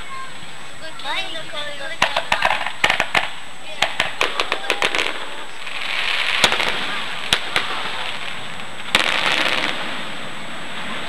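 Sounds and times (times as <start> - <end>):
steady hiss: 0.0 - 11.0
fireworks banging: 1.0 - 11.0.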